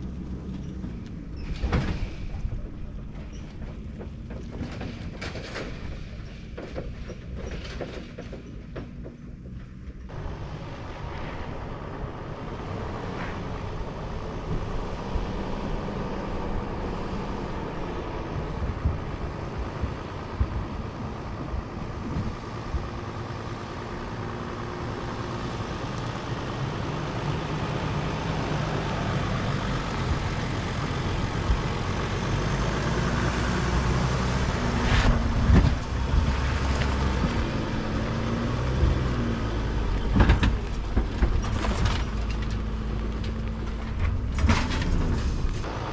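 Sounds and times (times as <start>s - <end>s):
van driving on dirt trail: 0.0s - 45.9s.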